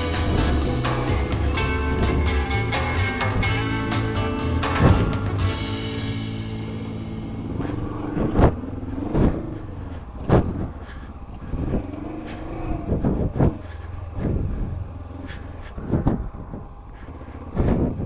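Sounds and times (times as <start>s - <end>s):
motorcycle engine revving: 0.0s - 15.7s.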